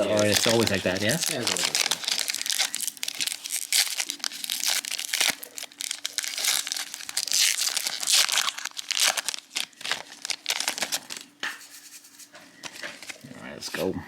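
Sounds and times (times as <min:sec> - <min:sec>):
foil wrapper crinkling: 0:00.0 - 0:13.4.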